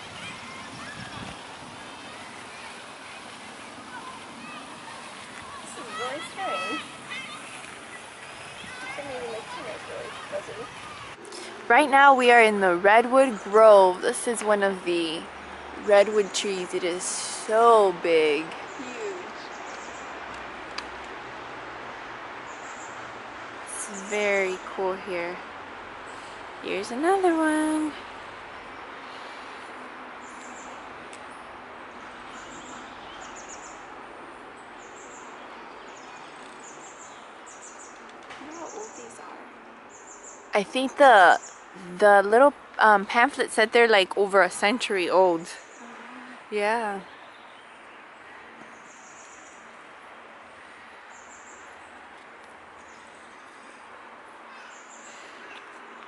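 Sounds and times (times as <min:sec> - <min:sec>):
birds chirping: 0:00.0 - 0:56.0
steady outdoor hiss: 0:00.0 - 0:56.0.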